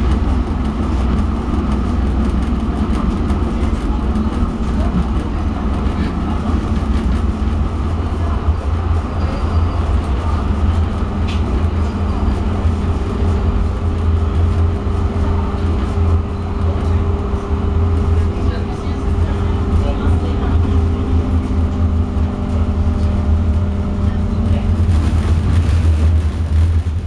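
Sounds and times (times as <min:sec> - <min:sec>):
tram running gear rumble: 0:00.0 - 0:27.0.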